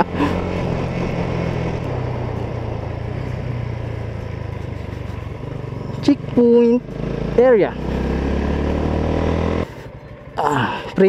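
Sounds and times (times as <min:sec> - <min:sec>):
motorcycle engine running: 0:00.0 - 0:10.4
wind and road noise: 0:00.0 - 0:11.0.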